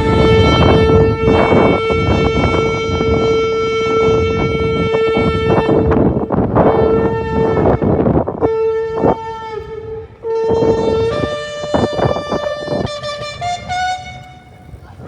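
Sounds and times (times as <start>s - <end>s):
shofar blast: 0.0s - 14.8s.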